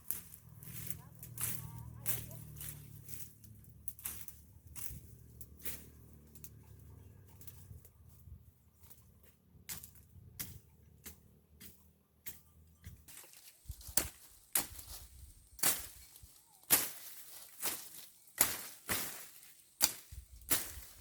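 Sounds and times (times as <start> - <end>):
hand tool chopping weeds: 0.0 - 6.7, 8.8 - 21.0.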